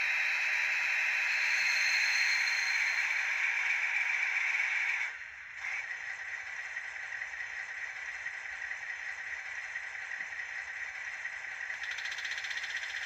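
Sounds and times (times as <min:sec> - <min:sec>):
thin hissy diesel engine sound: 0:00.0 - 0:13.0.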